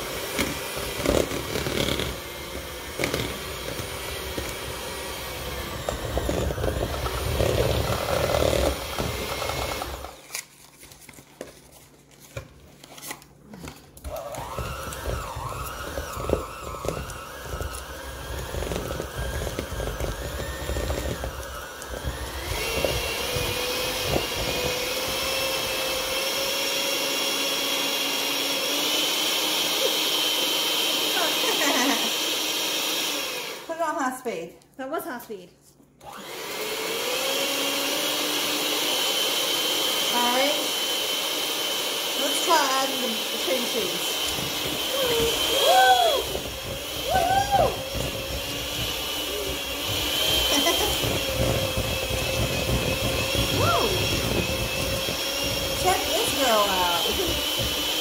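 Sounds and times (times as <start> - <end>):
electric mixer running: 0.0 - 10.5, 13.5 - 34.0, 36.0 - 58.0.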